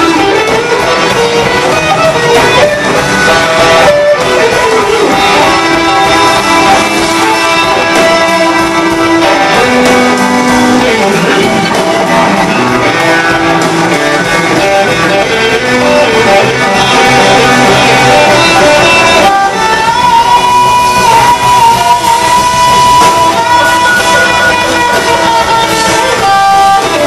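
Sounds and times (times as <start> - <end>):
electric guitar sliding notes: 0.0 - 27.0
live band playing: 0.0 - 27.0.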